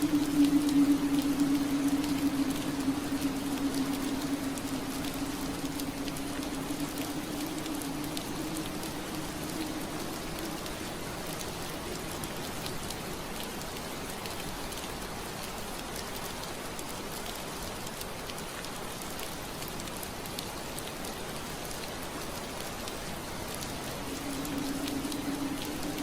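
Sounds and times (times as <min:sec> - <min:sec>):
rain on window glass: 0:00.0 - 0:26.0
raindrops ticking: 0:00.0 - 0:26.0.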